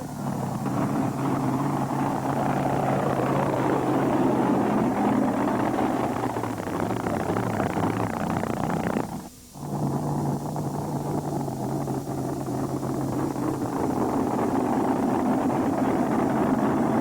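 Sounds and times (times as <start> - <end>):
tractor engine at high power: 0.0 - 17.0.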